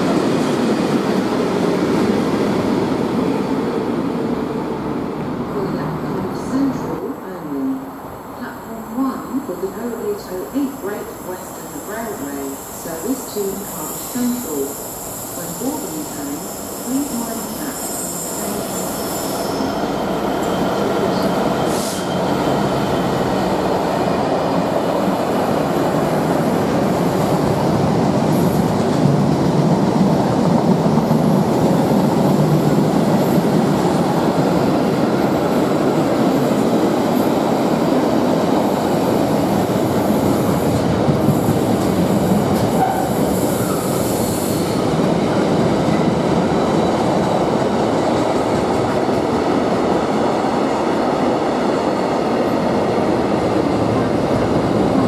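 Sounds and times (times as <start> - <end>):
diesel locomotive passing: 0.0 - 55.0
train wheels rumbling on rails: 9.5 - 55.0.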